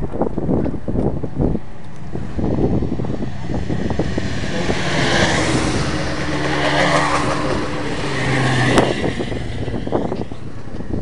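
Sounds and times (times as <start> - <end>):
racing motorcycles passing: 2.0 - 11.0.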